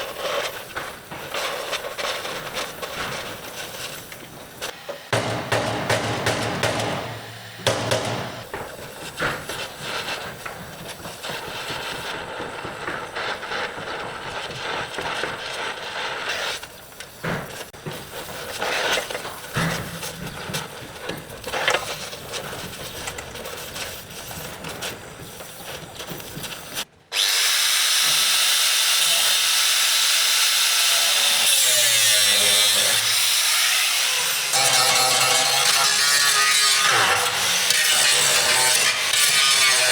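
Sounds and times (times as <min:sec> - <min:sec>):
power tool hissing: 0:00.0 - 0:39.9
power tool rasping metal: 0:00.0 - 0:39.9.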